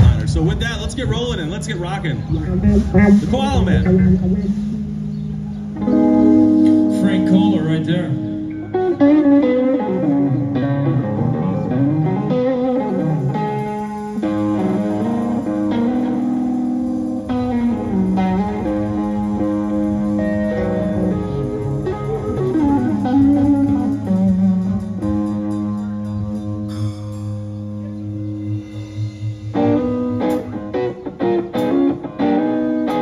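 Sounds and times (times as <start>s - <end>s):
electric bass line: 0.0s - 33.0s
electric guitar bending notes: 0.0s - 33.0s.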